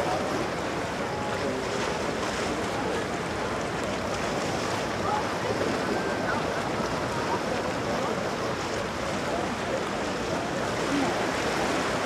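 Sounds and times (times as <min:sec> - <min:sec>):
water: 0:00.0 - 0:12.0
wind: 0:00.0 - 0:12.0.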